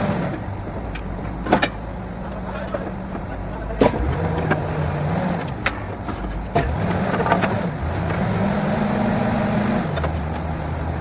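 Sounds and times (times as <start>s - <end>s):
drilling rig diesel engine: 0.0s - 11.0s.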